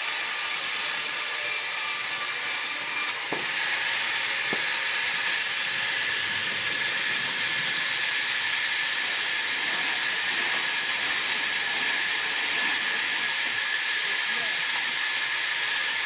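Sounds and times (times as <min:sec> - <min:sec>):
band saw whirring: 0:00.0 - 0:16.0.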